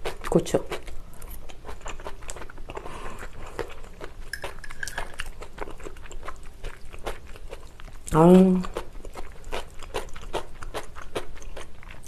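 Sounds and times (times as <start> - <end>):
chewing soft pasta: 0.0 - 12.0.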